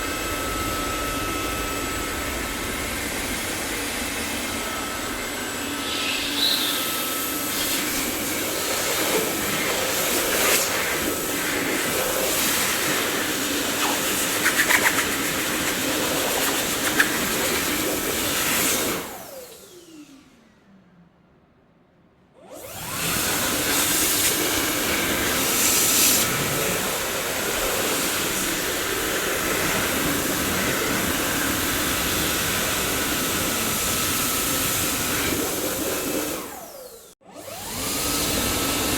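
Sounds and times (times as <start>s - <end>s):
vacuum cleaner motor running: 0.0s - 20.5s, 22.4s - 38.9s.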